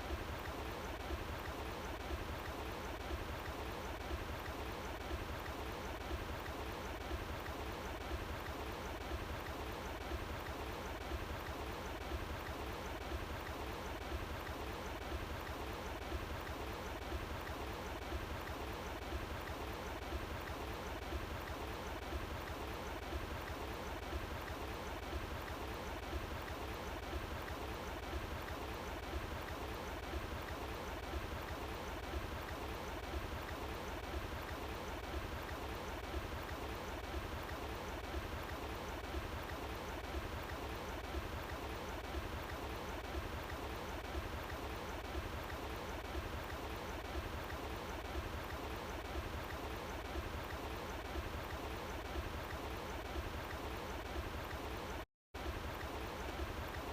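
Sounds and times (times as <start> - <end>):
running water flowing: 0.0 - 56.9.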